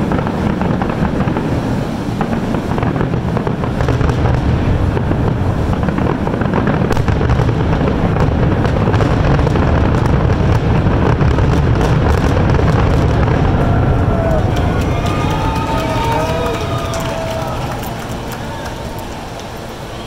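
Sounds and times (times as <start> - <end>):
fireworks crackling: 0.0 - 20.0
fireworks shell bursts rumbling: 0.0 - 20.0.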